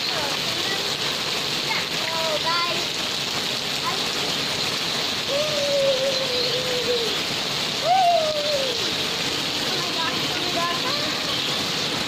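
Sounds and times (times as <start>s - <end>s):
rain falling on grass: 0.0s - 12.0s.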